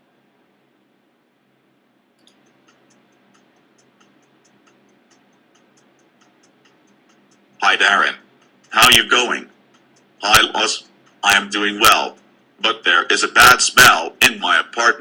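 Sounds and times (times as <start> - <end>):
faint regular ticking: 2.0 - 14.9.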